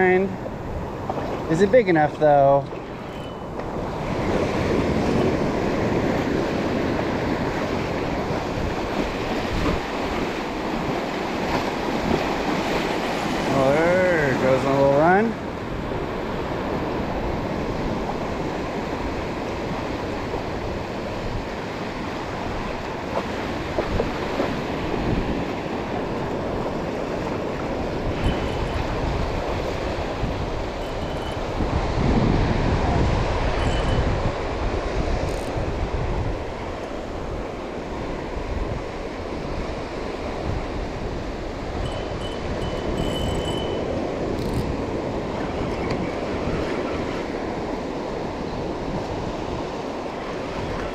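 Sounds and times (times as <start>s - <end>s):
surf waves washing onto sand: 0.0s - 50.9s
wind on microphone: 0.0s - 50.9s.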